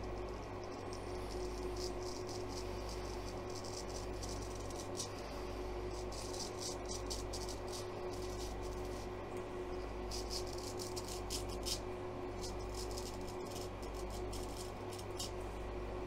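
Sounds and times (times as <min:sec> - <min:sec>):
straight razor scraping stubble: 0:00.0 - 0:09.1, 0:10.1 - 0:11.8, 0:12.4 - 0:15.4
electric fan hum: 0:00.0 - 0:16.0.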